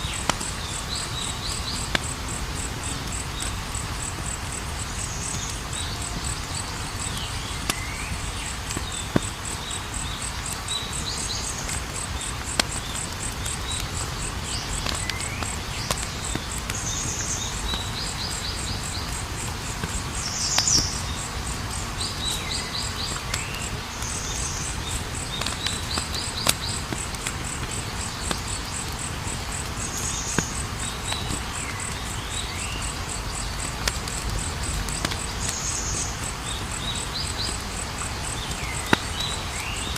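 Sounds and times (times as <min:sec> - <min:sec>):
campfire burning: 0:00.0 - 0:39.9
fire popping: 0:00.0 - 0:39.9.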